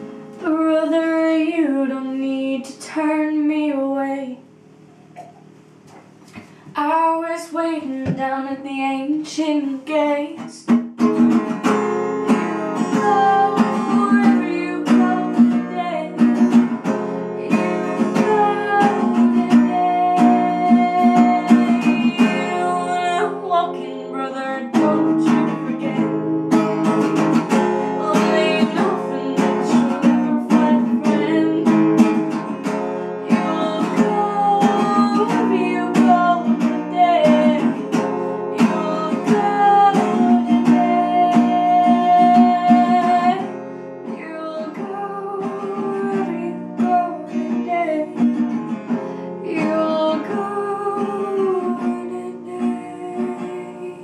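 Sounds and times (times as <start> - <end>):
acoustic guitar strumming: 0.0 - 2.0, 5.0 - 54.0
woman singing: 0.4 - 4.5, 6.7 - 48.7, 49.4 - 54.0.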